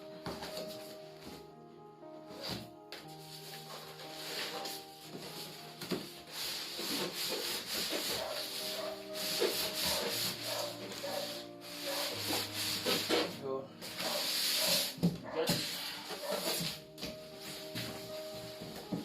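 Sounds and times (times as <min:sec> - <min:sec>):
background music with held notes: 0:00.0 - 0:19.0.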